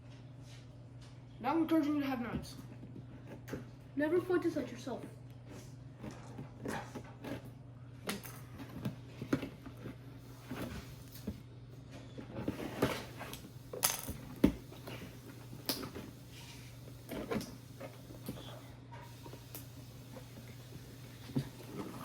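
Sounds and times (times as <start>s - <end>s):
steady low hum: 2.6s - 22.0s.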